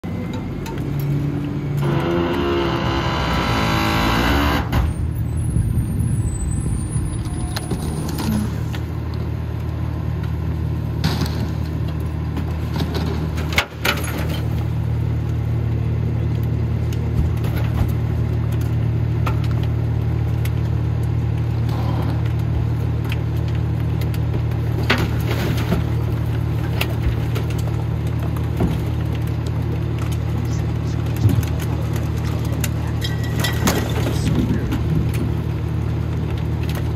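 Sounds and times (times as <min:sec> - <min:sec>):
garbage truck engine hum: 0:00.0 - 0:36.9.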